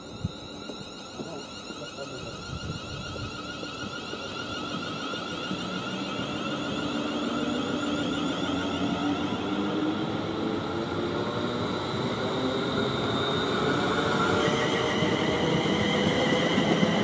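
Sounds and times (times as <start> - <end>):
train traction motors whining: 0.0 - 17.0
wheels running on rails: 0.0 - 17.0.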